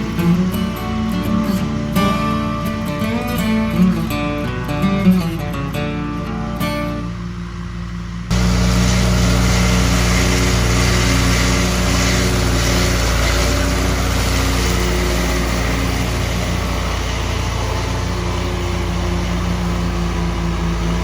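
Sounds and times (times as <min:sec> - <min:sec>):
engine running steadily: 0:00.0 - 0:21.0
guitar music: 0:00.0 - 0:21.0.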